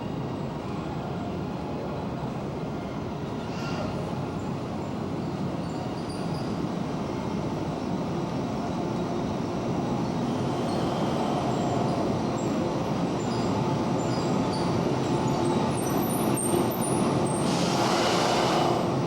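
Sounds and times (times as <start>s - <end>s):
train wheels rumbling on rail: 0.1s - 19.0s.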